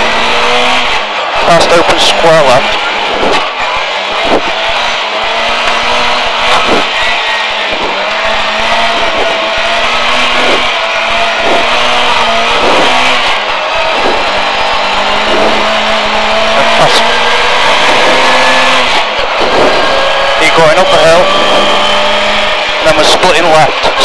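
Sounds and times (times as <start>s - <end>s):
rally car engine running hard: 0.0s - 24.0s.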